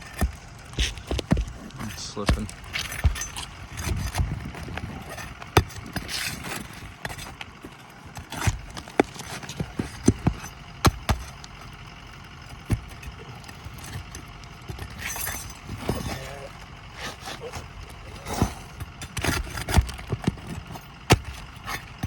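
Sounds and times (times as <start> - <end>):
knocks and scrapes on shingle roof: 0.0 - 11.8, 12.4 - 22.0.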